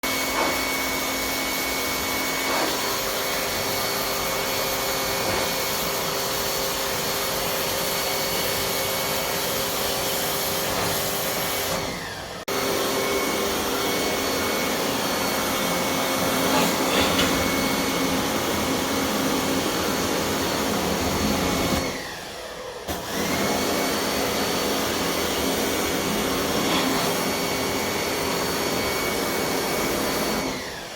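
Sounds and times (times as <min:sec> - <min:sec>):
pressure washer motor whining: 0:00.0 - 0:30.9.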